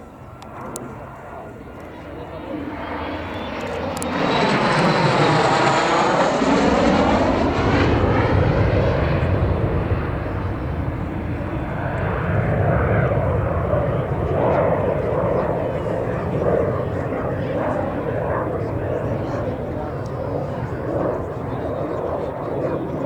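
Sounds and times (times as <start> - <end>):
jet flying past: 0.0 - 23.0.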